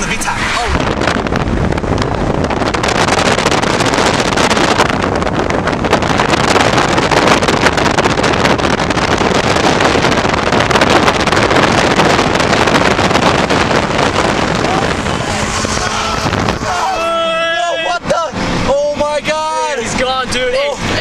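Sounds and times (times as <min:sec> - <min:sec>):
car engine accelerating: 0:00.0 - 0:21.0
road and wind noise: 0:00.0 - 0:21.0.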